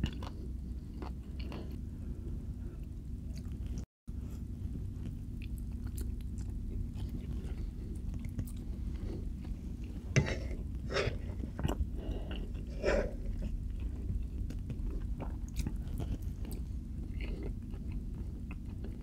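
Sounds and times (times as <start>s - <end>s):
low steady hum: 0.0s - 19.0s
person chewing food: 0.0s - 19.0s.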